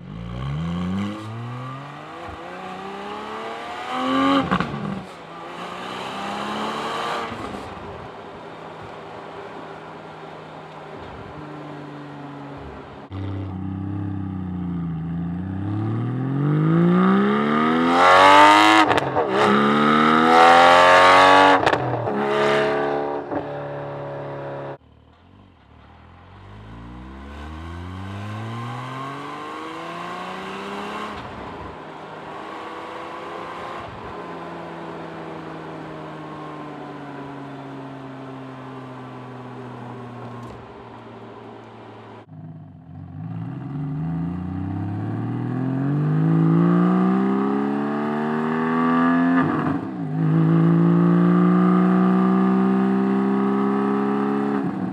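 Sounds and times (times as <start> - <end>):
sports car engine accelerating: 0.0 - 54.9.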